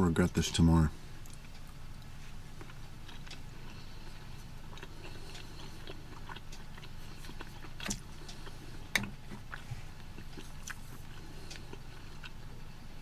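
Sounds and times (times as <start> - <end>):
person chewing food: 1.2 - 12.8.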